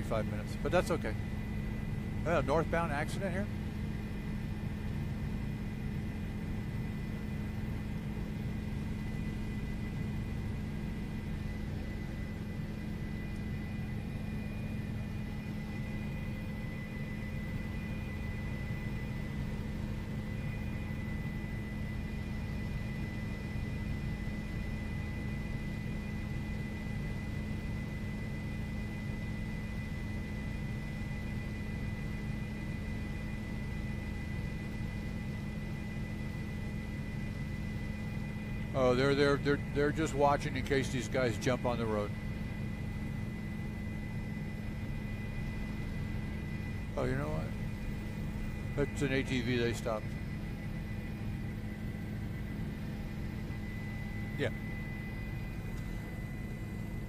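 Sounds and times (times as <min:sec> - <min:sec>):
helicopter in flight: 0:00.0 - 0:57.0.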